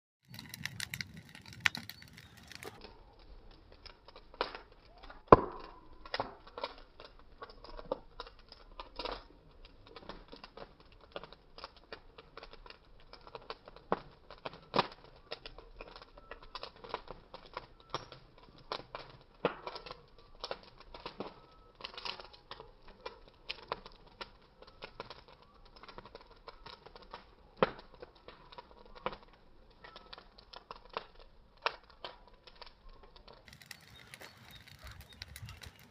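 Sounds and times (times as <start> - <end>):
bonfire crackling and popping: 0.2 - 35.9.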